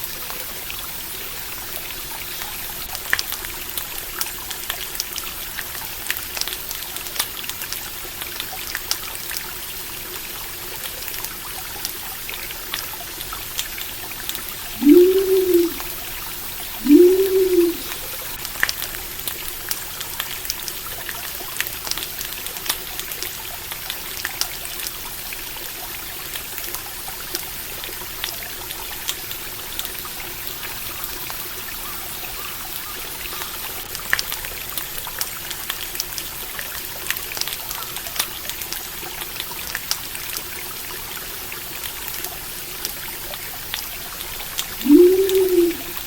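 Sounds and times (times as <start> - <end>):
stream flowing: 0.0 - 46.0.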